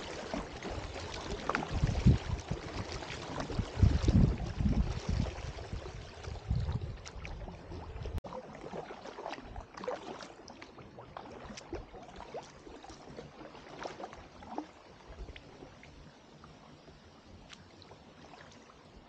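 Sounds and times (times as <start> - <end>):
paddle strokes in water: 0.0 - 19.0
water dripping and trickling: 0.0 - 19.0.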